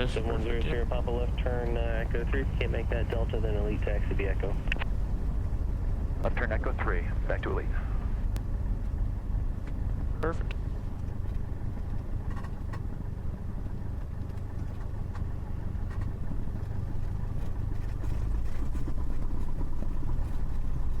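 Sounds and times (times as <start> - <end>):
plane engine droning: 0.0 - 21.0.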